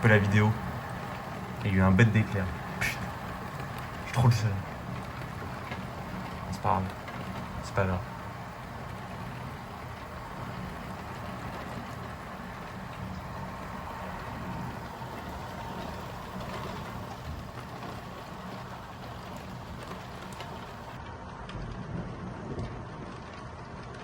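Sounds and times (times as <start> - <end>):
low rumbling: 0.0 - 21.0
rain hissing: 0.0 - 21.0.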